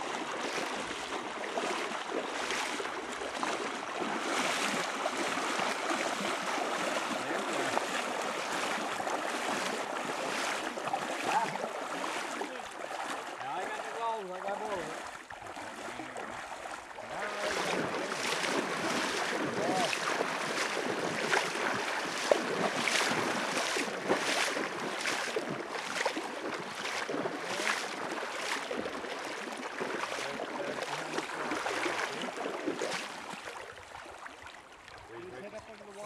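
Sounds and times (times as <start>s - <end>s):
river water rushing: 0.0s - 34.6s.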